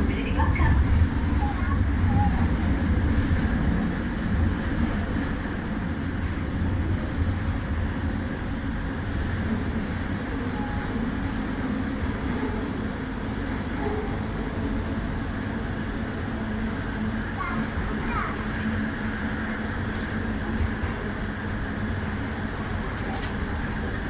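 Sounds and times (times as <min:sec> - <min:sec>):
light-rail train rumbling: 0:00.0 - 0:24.0.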